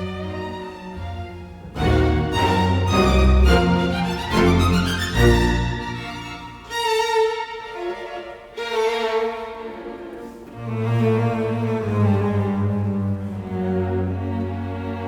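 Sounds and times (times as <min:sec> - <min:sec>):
bowed strings: 0:00.0 - 0:15.0.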